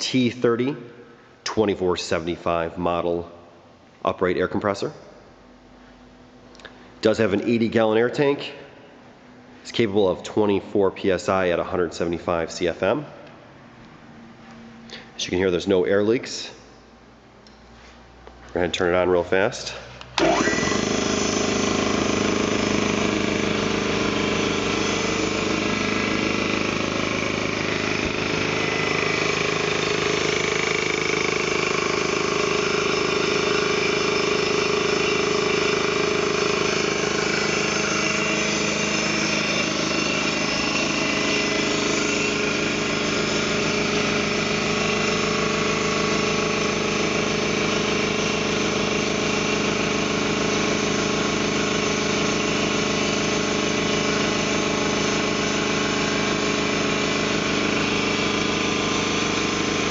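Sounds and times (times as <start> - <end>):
air compressor running: 4.8 - 15.8, 16.4 - 59.9.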